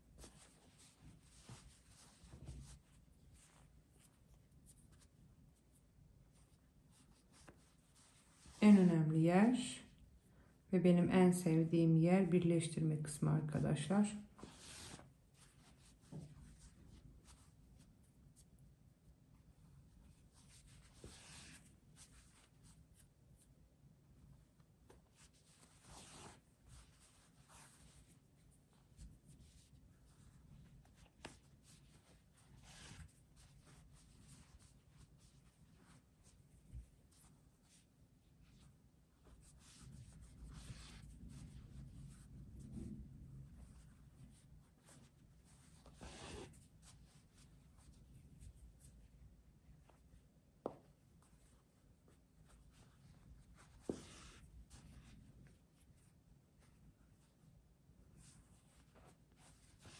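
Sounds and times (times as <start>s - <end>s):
faint rustling of yarn: 0.0s - 59.9s.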